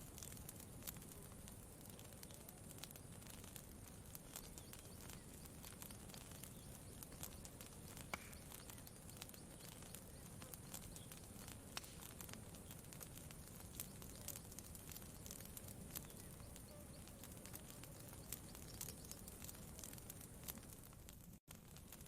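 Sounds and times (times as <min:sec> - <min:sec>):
campfire crackling: 0:00.0 - 0:22.0
low steady hiss: 0:00.0 - 0:22.0.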